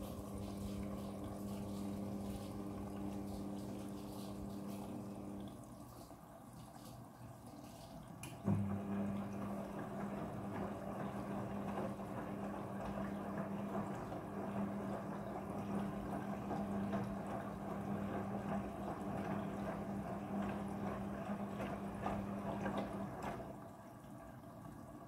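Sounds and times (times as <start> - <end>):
water splashing in washing machine: 0.0 - 25.0.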